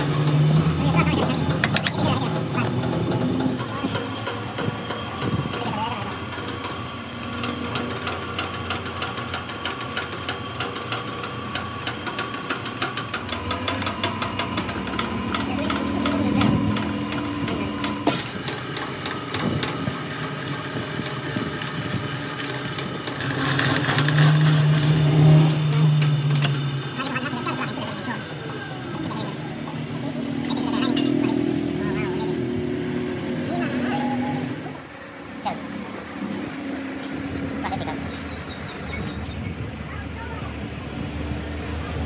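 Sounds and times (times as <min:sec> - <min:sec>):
drill press running: 0:00.0 - 0:42.0.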